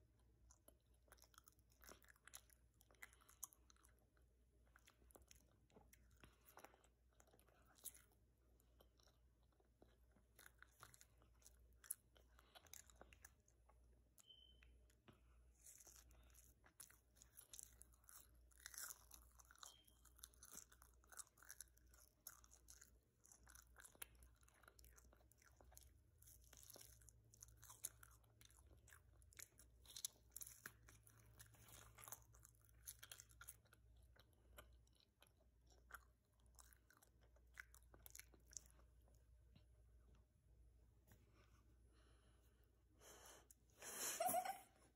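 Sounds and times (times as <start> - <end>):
child chewing marshmallow: 0.0 - 44.2.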